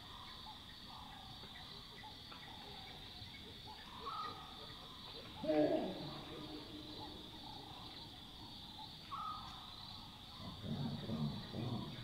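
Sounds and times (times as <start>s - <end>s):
crickets chorus: 0.0s - 12.0s
loud insect call: 0.0s - 12.0s.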